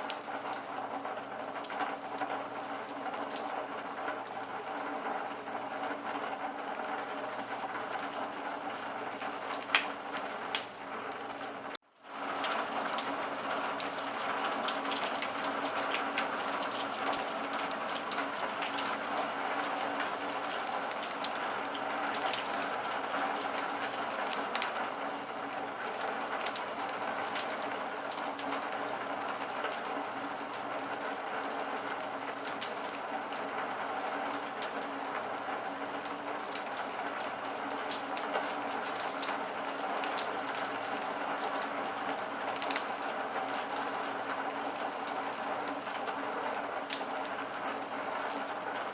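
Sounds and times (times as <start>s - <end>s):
raindrop ticks: 0.0s - 48.9s
steady rain falling: 0.0s - 48.9s.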